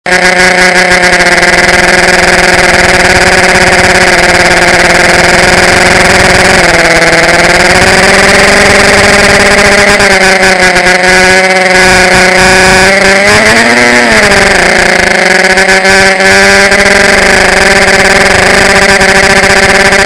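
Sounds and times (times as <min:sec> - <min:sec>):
drone motors buzzing whine: 0:00.1 - 0:20.0.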